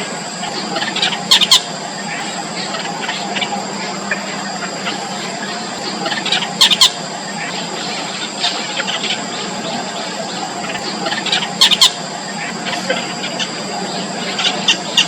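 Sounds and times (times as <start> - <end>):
chicks squealing begging calls: 0.0 - 15.0.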